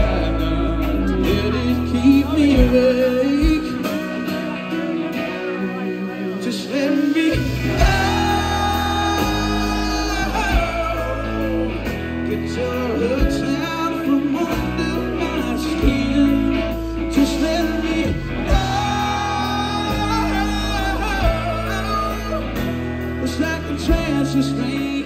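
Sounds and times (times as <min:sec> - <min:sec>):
bass guitar: 0:00.0 - 0:25.0
drums: 0:00.0 - 0:25.0
electric guitars: 0:00.0 - 0:25.0.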